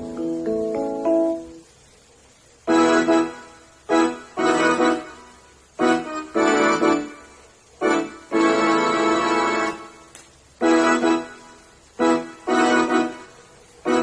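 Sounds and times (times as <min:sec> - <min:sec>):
digital keyboard chords: 0:00.0 - 0:01.7, 0:02.7 - 0:14.0.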